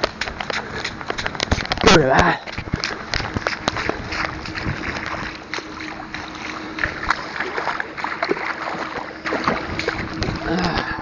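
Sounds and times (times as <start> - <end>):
bare feet splashing through mud: 0.0 - 11.0.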